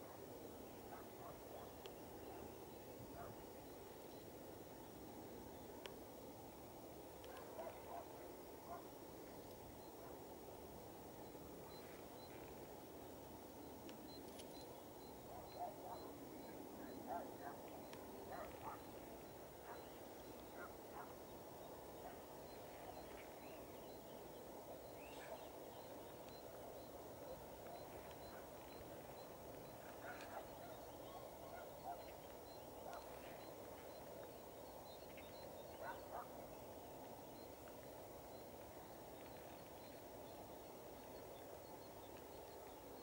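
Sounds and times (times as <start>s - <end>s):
distant bird calls: 0.0s - 5.8s, 7.2s - 9.0s, 10.9s - 43.0s
faint steady hiss: 0.0s - 43.0s.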